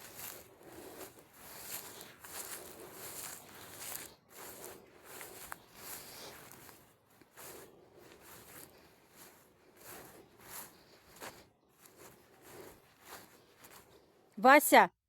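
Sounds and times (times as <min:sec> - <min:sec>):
soft scuffs: 0:00.0 - 0:13.9.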